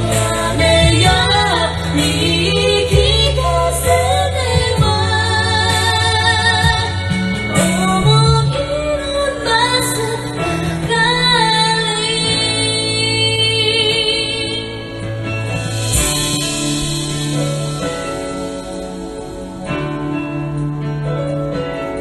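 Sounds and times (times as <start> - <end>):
woman singing pop song: 0.0 - 18.7
backing track with bass: 0.0 - 22.0.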